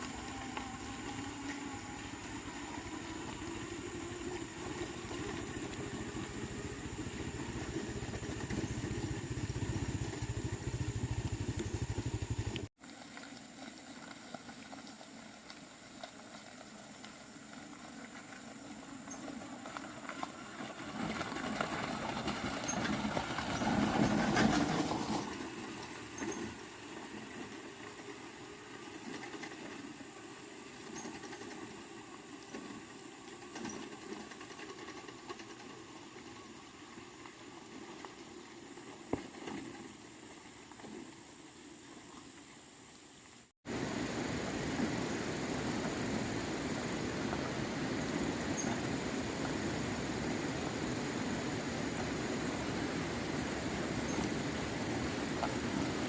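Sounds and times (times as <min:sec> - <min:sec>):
engine running: 0:00.0 - 0:41.4, 0:43.7 - 0:56.0
quiet mechanical sound: 0:00.0 - 0:56.0.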